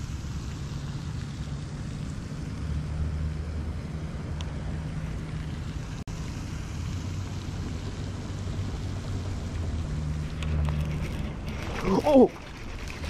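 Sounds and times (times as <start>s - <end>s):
low mechanical hum: 0.0s - 13.0s
outdoor noise: 0.0s - 13.0s.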